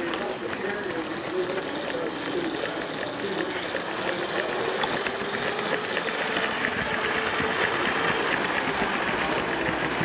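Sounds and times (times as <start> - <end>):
plastic wheels clicking on track: 0.0 - 10.0
small electric motor whining: 0.2 - 10.0.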